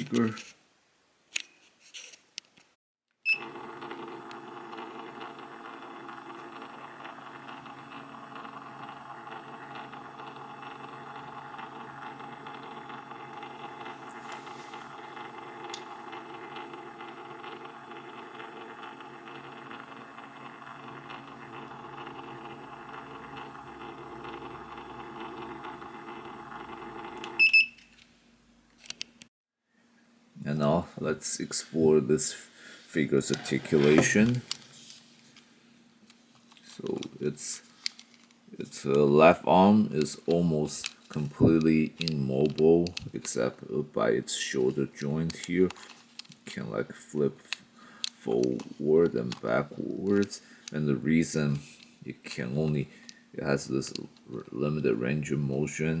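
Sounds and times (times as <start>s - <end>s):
mechanical hum: 3.3s - 56.0s.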